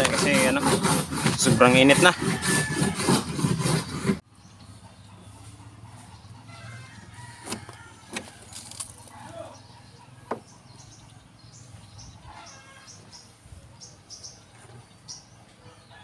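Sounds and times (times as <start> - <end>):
birds chirping: 3.0 - 16.0.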